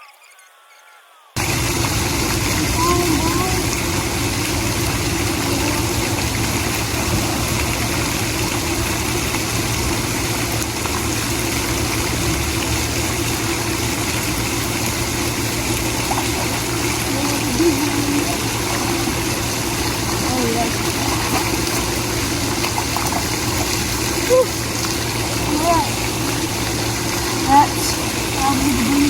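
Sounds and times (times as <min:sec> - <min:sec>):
low mechanical hum: 0:01.3 - 0:29.0
constant rushing noise: 0:01.4 - 0:29.0.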